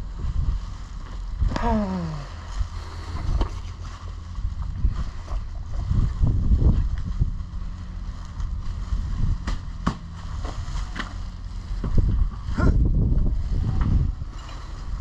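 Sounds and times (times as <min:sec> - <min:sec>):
wind rumbling on microphone: 0:00.0 - 0:15.0
heavy knocking and rustling: 0:02.7 - 0:15.0.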